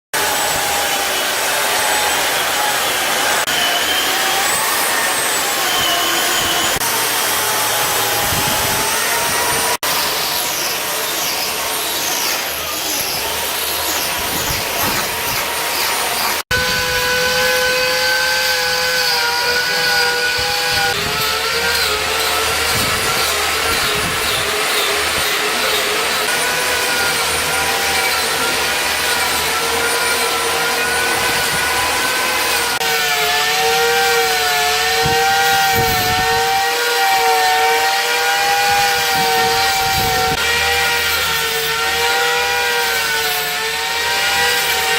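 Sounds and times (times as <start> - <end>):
power carving tool grinding wood: 0.2 - 44.9.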